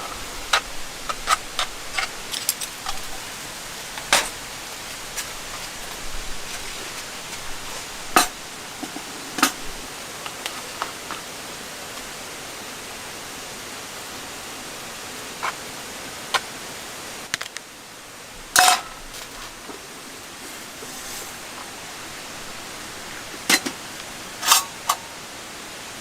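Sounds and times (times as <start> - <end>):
raindrops striking a surface: 0.0 - 26.0
steady rain hiss: 0.0 - 26.0.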